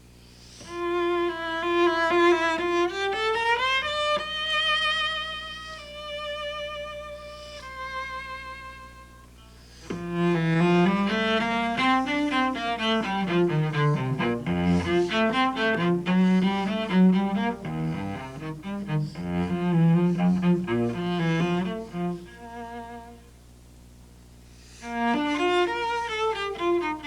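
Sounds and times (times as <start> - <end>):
solo cello playing: 0.6 - 23.4, 24.7 - 27.0.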